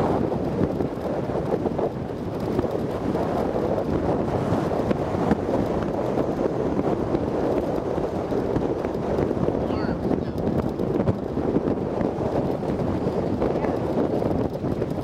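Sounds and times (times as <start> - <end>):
vehicle driving rumble: 0.0 - 15.0
wind buffeting microphone: 0.0 - 15.0.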